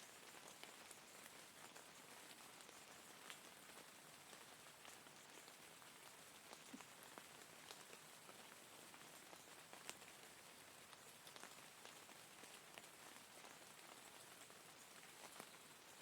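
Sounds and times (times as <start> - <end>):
quiet rain hiss: 0.0 - 16.0.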